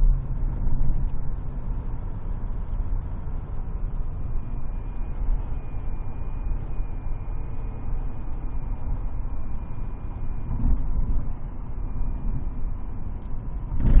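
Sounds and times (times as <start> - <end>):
faint high-pitched whine: 0.0 - 14.0
vehicle engine rumble: 0.0 - 14.0.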